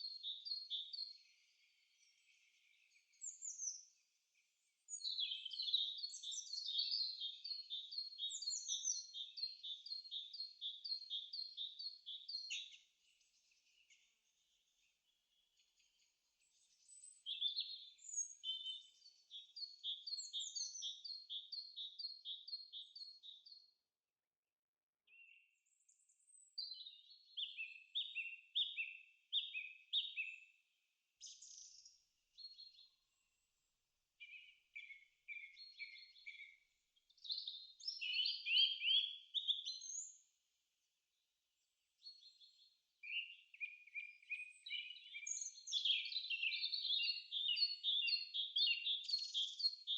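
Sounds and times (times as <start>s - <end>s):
songbird singing: 0.0s - 23.8s, 25.0s - 49.9s.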